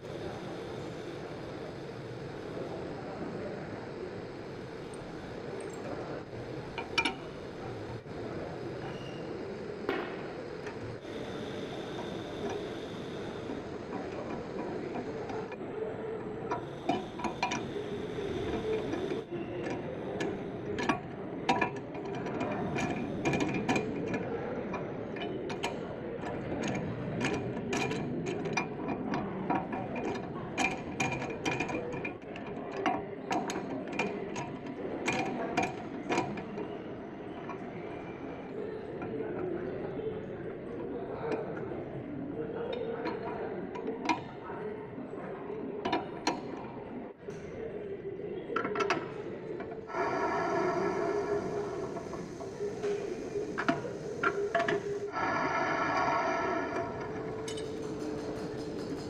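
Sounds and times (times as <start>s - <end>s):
steady background noise: 0.0s - 59.0s.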